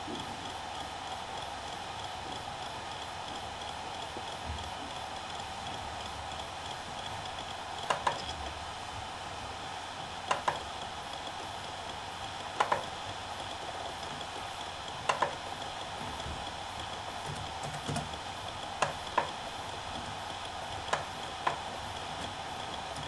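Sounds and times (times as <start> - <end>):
hard drive seek clicks: 0.0 - 23.0
hard drive whine: 0.0 - 23.0.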